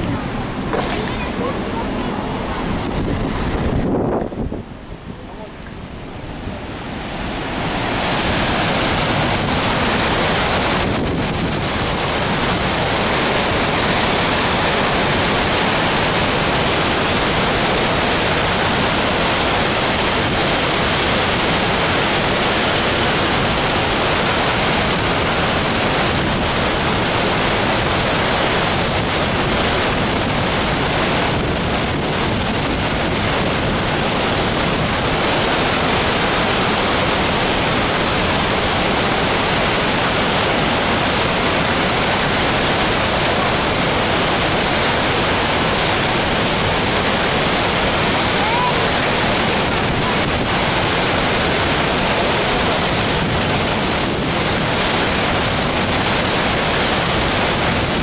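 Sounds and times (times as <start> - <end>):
water rushing from spillway: 0.0 - 58.0.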